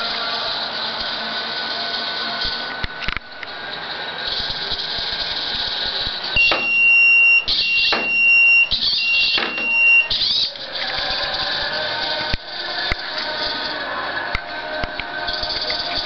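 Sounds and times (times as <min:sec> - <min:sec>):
robot arm motors hissing: 0:00.0 - 0:13.9
high-pitched whines: 0:00.0 - 0:16.0
mechanical noise bursts: 0:00.0 - 0:16.0.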